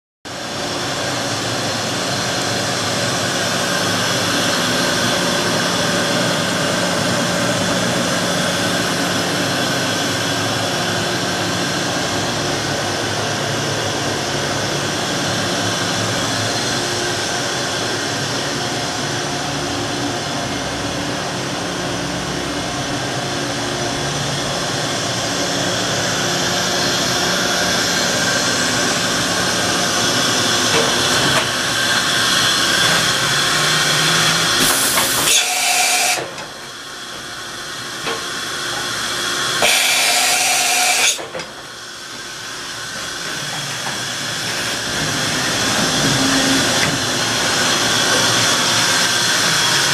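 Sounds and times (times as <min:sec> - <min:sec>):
machinery hum and whir: 0:00.3 - 0:49.9.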